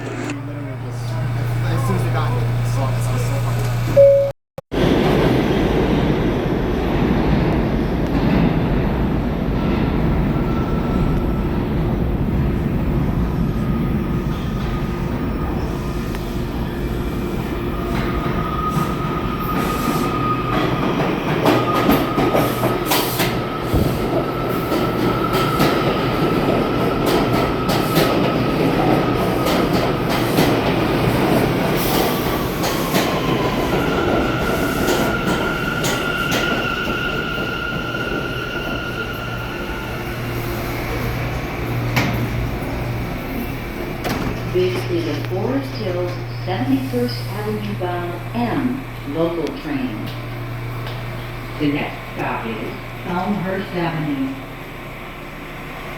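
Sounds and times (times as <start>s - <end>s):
wheels rumbling on rail: 4.7s - 55.9s.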